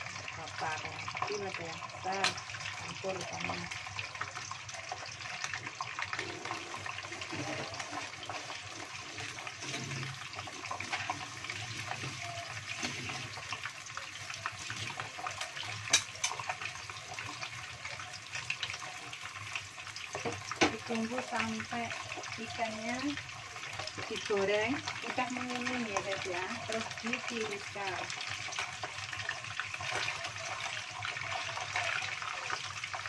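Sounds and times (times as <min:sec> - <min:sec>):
fish deep-frying in oil: 0:00.0 - 0:33.0.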